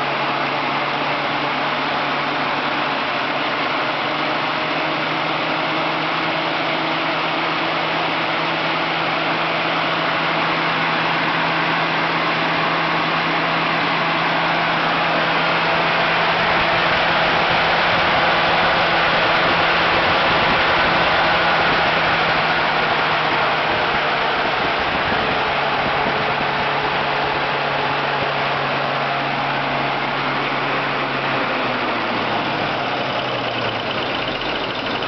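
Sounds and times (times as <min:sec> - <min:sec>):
engine idling: 0:00.0 - 0:35.0.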